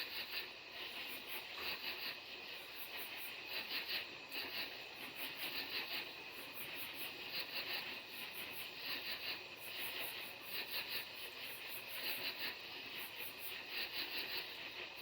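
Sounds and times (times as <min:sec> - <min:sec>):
faint hiss: 0:00.0 - 0:15.0
insects calling in pulses: 0:00.0 - 0:15.0.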